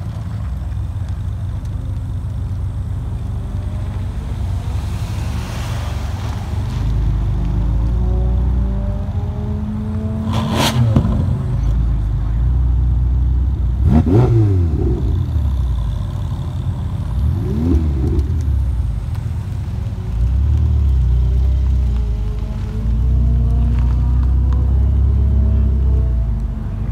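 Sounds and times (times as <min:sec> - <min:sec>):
car engine idling and revving: 0:00.0 - 0:26.9.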